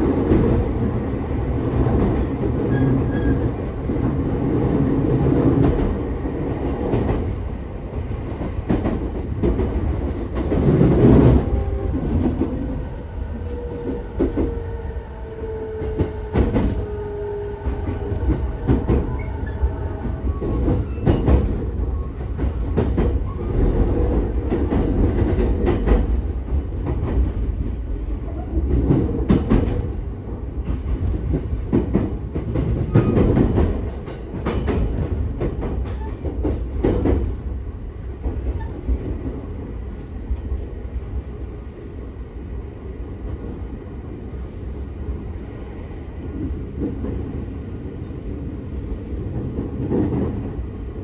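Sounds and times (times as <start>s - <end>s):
rail joint clicks: 0.0s - 41.3s, 45.3s - 51.0s
train wheels rumbling on rail: 0.0s - 51.0s.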